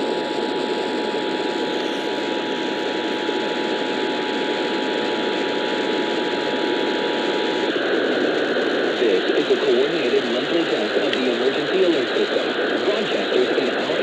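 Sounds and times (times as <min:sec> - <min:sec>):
radio static: 0:00.0 - 0:14.0.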